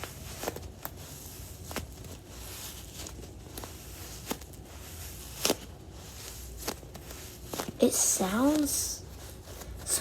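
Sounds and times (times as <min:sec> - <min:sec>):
sand crackling inside balloon: 0:00.0 - 0:10.0.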